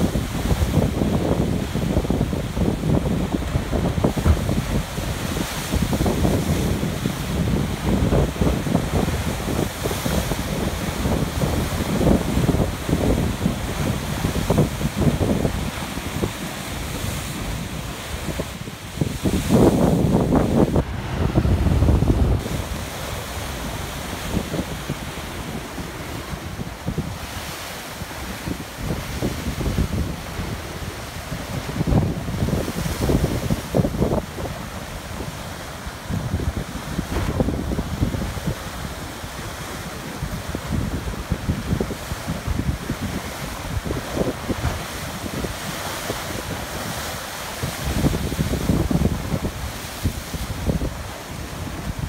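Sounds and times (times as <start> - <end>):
waves crashing against rocks: 0.0 - 52.0
wind buffeting microphone: 0.0 - 52.0.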